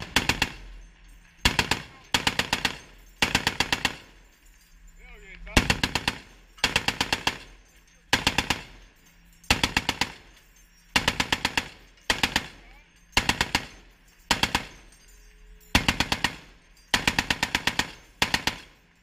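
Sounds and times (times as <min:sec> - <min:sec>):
heavy machine gun bursts: 0:00.0 - 0:00.8, 0:01.4 - 0:04.2, 0:05.5 - 0:15.0, 0:15.7 - 0:18.9.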